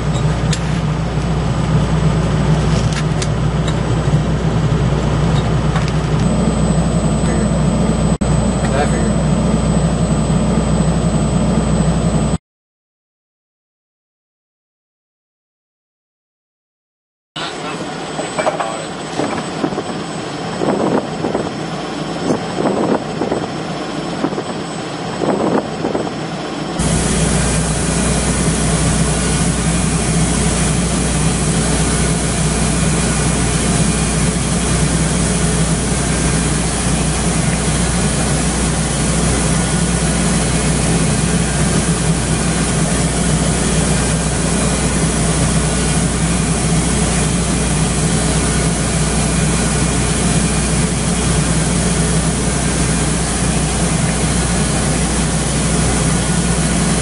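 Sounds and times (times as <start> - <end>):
milling machine drone: 0.0 - 12.4, 17.4 - 57.0.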